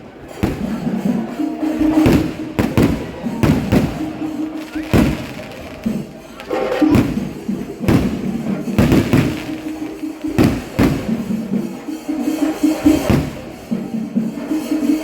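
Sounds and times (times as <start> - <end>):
steady music: 0.0 - 15.0
fireworks booming: 0.2 - 13.9.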